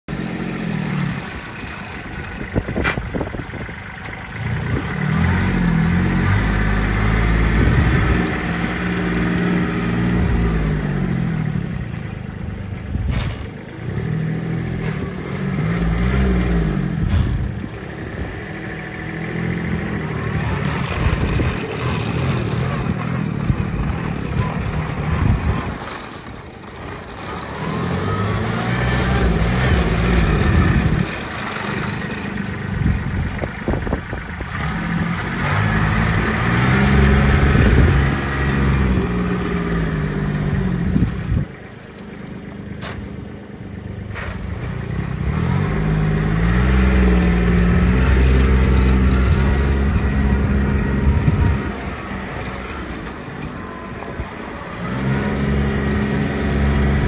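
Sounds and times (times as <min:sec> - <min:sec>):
tractor engine passing by: 0:00.1 - 0:57.0.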